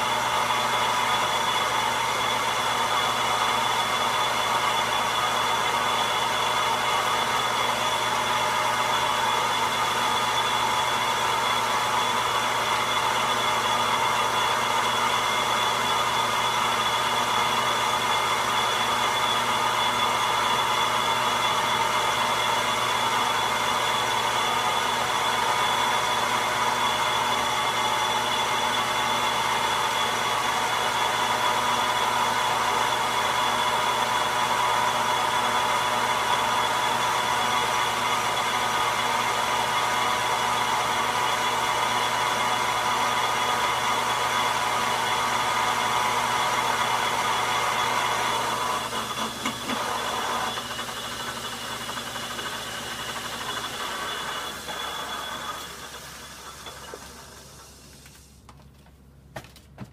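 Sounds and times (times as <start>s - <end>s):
metal lathe running: 0.0s - 57.7s.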